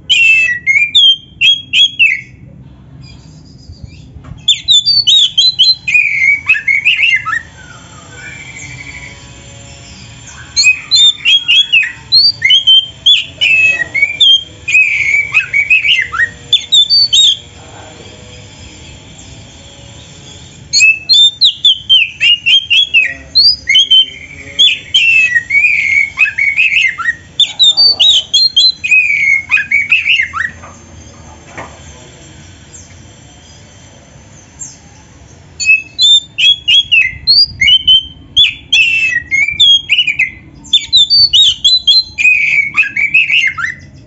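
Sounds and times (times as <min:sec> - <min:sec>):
bird singing varied song: 0:00.0 - 0:44.0.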